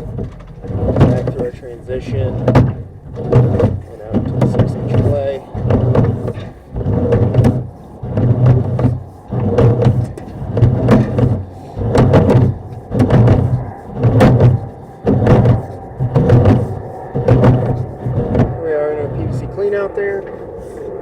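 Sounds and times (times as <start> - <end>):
push cable clunking and scraping: 0.0 - 21.0.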